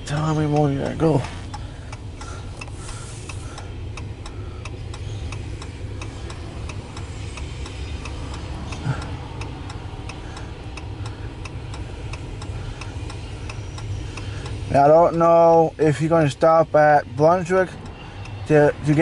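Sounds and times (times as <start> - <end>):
rapid ticking: 0.0 - 19.0
steady low rumble: 0.0 - 19.0.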